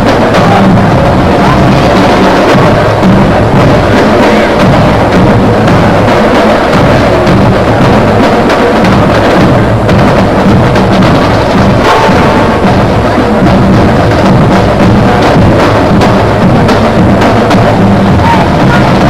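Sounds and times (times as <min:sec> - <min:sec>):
loud music with drums and bass: 0:00.0 - 0:19.0.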